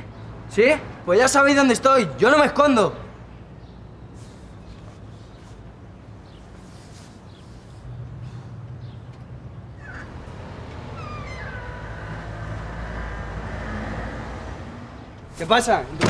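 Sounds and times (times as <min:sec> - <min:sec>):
street traffic rumbling: 0:00.0 - 0:16.0.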